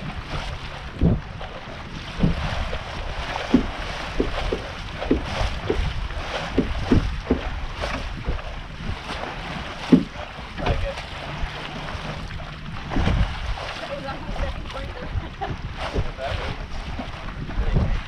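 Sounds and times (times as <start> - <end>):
water splashing against hull: 0.0 - 18.0
wind on microphone: 0.0 - 18.0.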